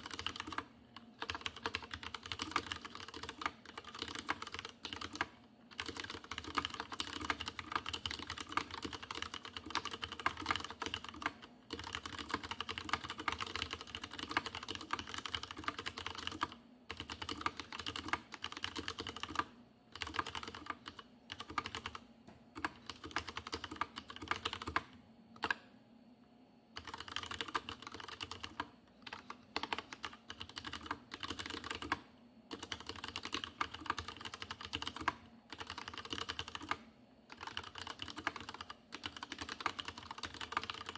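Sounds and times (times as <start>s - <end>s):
fast mechanical keyboard typing: 0.0s - 22.0s, 22.6s - 25.6s, 26.8s - 40.9s.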